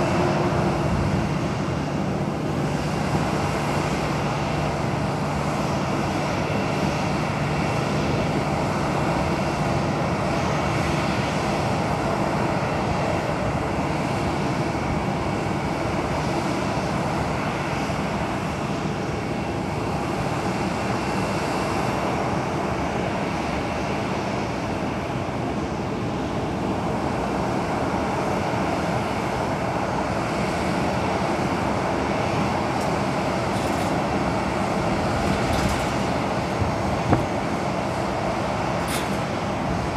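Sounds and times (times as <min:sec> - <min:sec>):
jet engine whine and rumble: 0:00.0 - 0:39.9.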